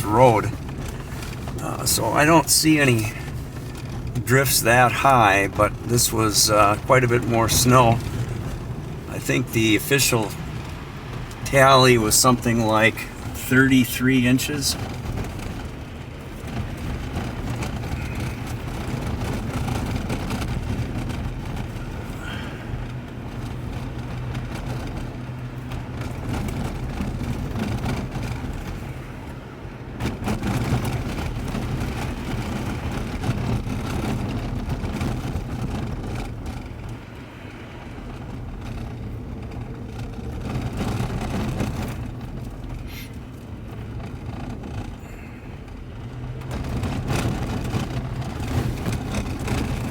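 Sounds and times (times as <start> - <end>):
car engine drone: 0.0 - 49.9
tyre and road noise: 0.0 - 49.9.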